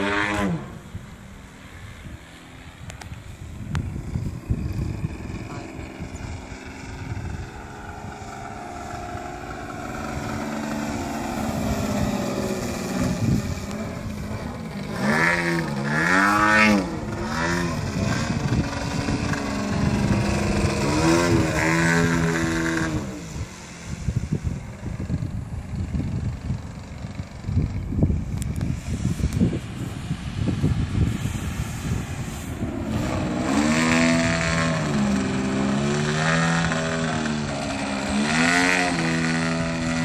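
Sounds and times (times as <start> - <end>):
model plane engine in flight: 0.0 - 40.0
wind rumble on microphone: 0.0 - 40.0.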